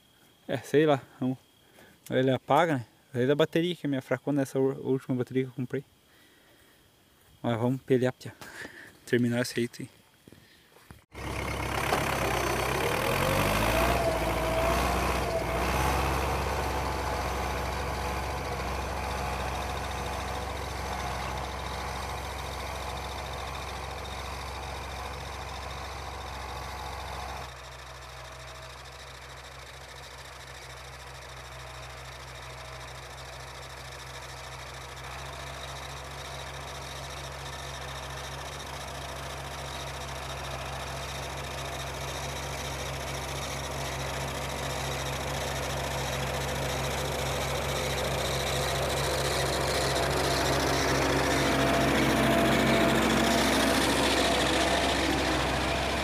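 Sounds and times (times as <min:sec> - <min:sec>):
tractor engine running under load: 0:11.1 - 0:56.0.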